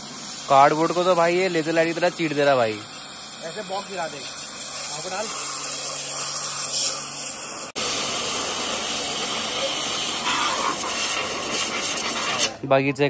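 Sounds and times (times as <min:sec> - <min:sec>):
pressure washer jet hissing: 0:00.0 - 0:12.7.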